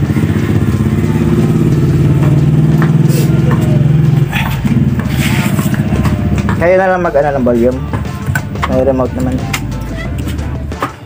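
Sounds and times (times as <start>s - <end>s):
engine idling: 0.0s - 10.6s.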